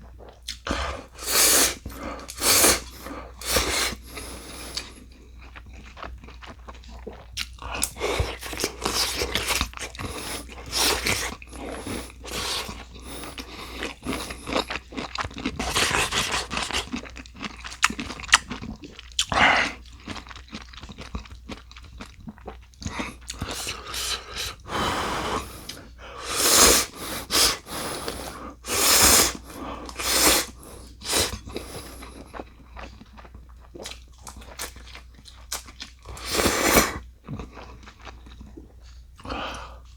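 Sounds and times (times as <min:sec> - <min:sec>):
person crunching and chewing: 0:00.2 - 0:39.6.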